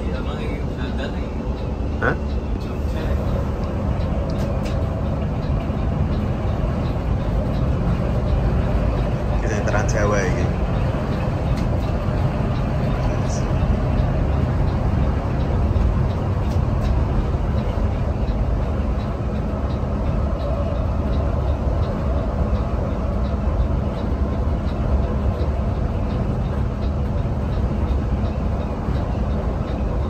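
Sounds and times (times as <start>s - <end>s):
bus diesel engine rumble: 0.0s - 30.0s
faint regular ticking: 0.0s - 30.0s.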